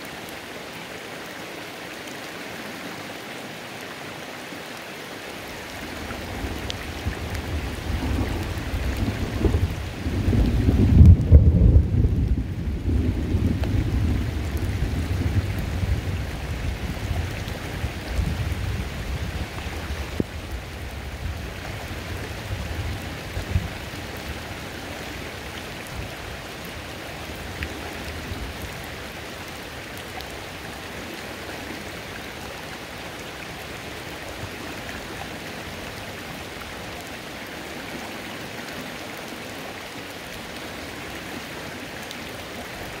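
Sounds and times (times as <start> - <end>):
flowing water: 0.0 - 43.0
rain hissing on water: 0.0 - 43.0.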